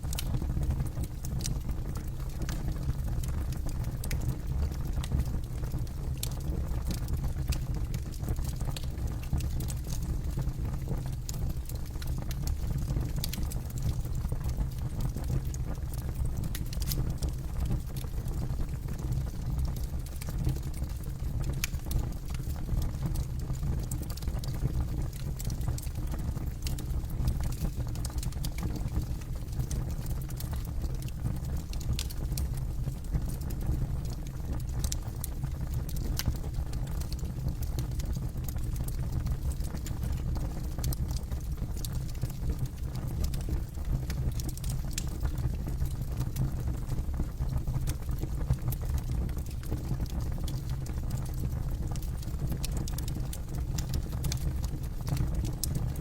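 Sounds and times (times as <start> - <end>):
campfire crackling and popping: 0.1 - 56.0.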